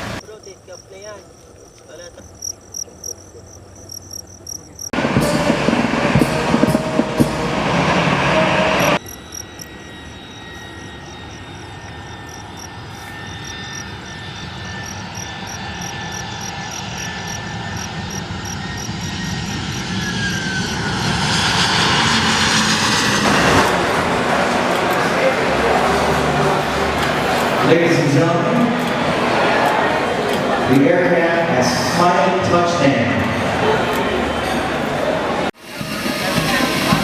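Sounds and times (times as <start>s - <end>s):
jet airliner engine noise: 0.0s - 37.0s.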